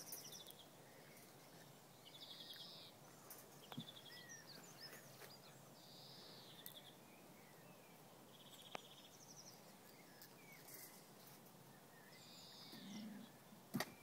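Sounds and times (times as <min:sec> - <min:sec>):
songbirds chirping trills: 0:00.0 - 0:14.0.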